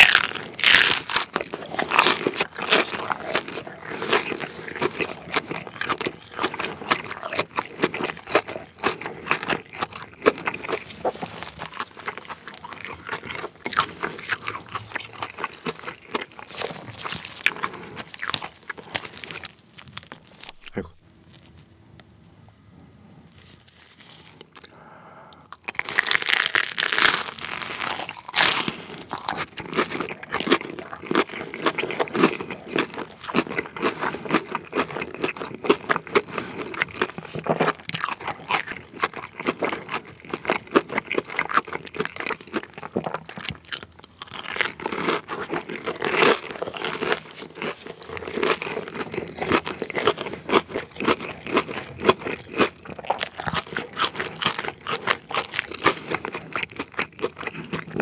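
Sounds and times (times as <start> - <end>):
crunching and chewing fried food: 0.0 - 21.7, 23.3 - 58.0.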